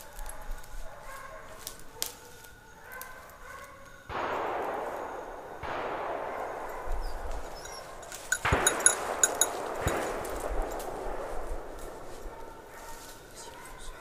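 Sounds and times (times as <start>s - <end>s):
distant hounds baying: 0.0s - 14.0s.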